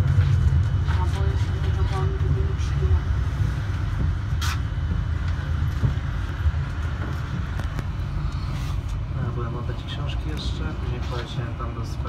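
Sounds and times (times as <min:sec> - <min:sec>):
tram rumbling on track: 0:00.0 - 0:12.0.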